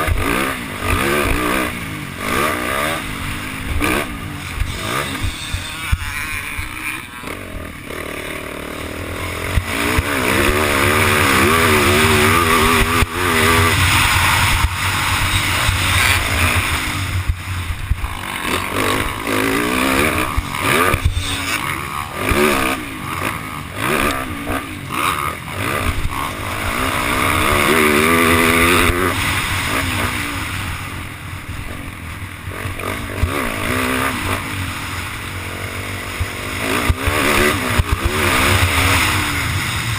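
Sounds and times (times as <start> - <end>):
motorcycle engine revving: 0.0 - 39.9
rushing noise: 0.0 - 39.9.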